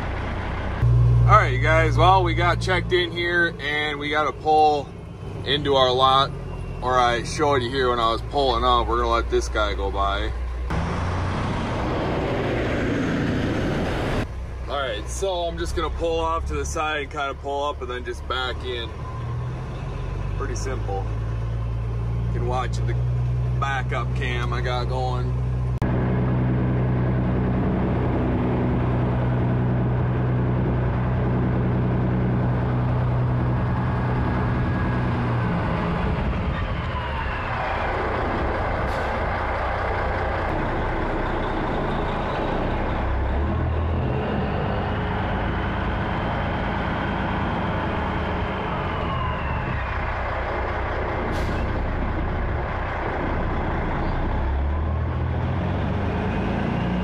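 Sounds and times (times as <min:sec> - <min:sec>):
road noise: 0:00.0 - 0:57.0
truck diesel engine running: 0:00.0 - 0:57.0.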